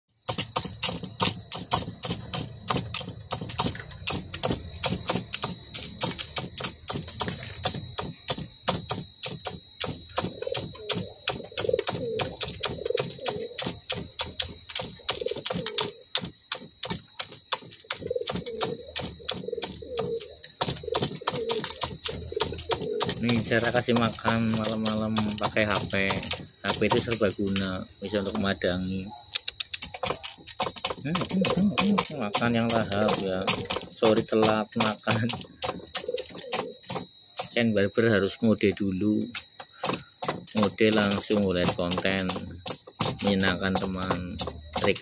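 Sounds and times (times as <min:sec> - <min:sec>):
beaks pecking on metal tray: 0:00.1 - 0:45.0
pigeons cooing: 0:00.3 - 0:45.0.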